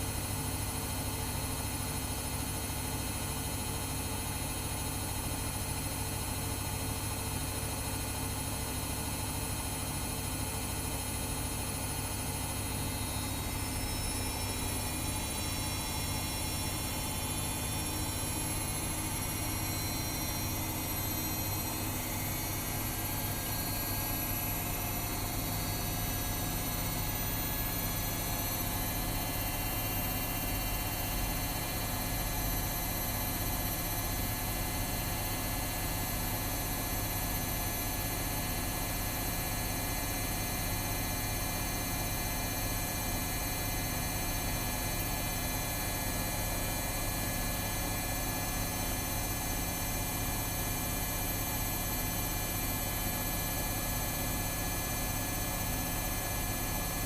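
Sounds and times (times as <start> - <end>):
washing machine motor hum: 0.0 - 57.0.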